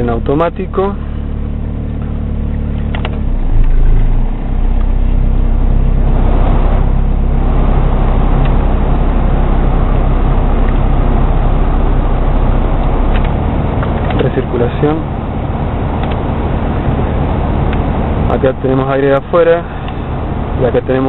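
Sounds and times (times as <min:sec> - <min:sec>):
car engine idling: 0:00.0 - 0:21.0
ventilation blower air rush: 0:00.0 - 0:21.0.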